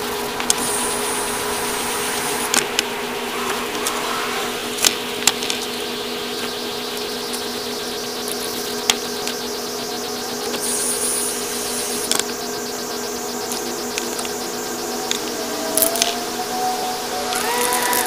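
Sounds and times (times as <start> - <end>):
low buzzing hum: 0.0 - 18.0.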